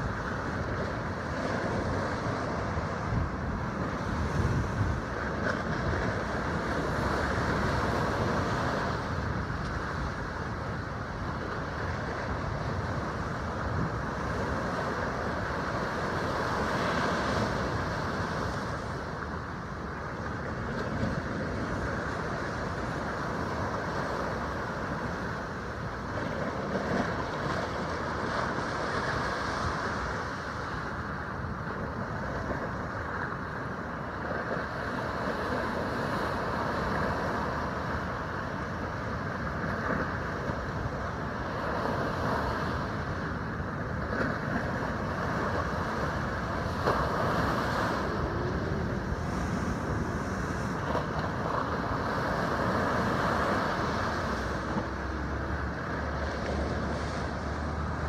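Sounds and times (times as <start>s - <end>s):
surf breaking over rocks: 0.0s - 58.0s
wind buffeting microphone: 0.0s - 58.0s.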